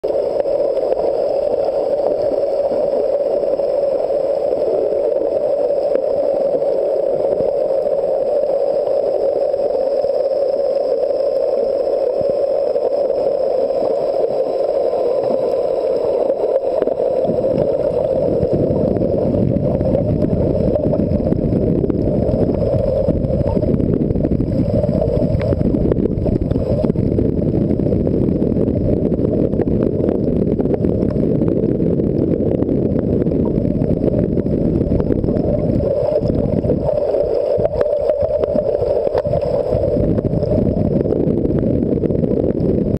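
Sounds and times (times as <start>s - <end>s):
deep underwater rumble: 0.0s - 42.9s
underwater hum: 0.0s - 42.9s.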